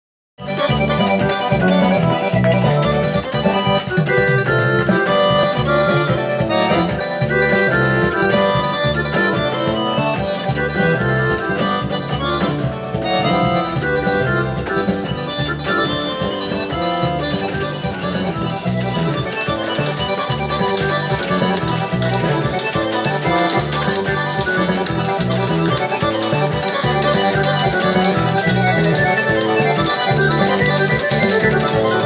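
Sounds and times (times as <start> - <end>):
music with strong bass beat: 0.5 - 32.0.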